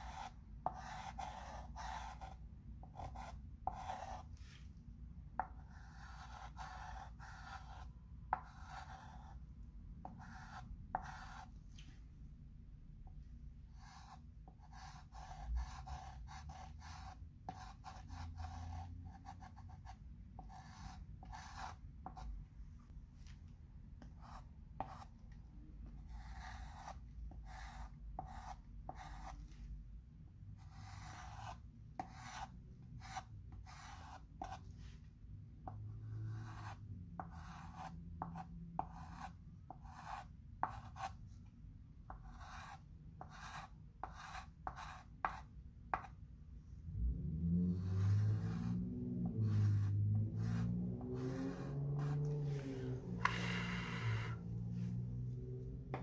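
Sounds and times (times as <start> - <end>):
chalk scratching on chalkboard: 0.0 - 4.7, 5.4 - 9.4, 10.0 - 12.0, 13.8 - 22.3, 24.0 - 25.1, 26.0 - 29.7, 30.6 - 35.0, 35.7 - 41.3, 42.1 - 46.1, 47.8 - 55.0.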